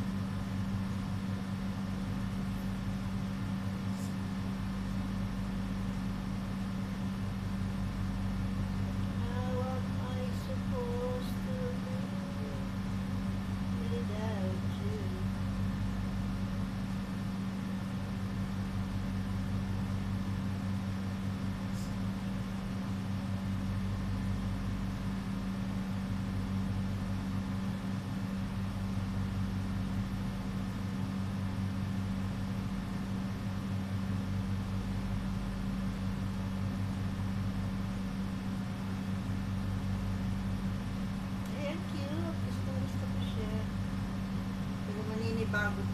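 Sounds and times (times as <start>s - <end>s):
motor hum: 0.0s - 45.9s.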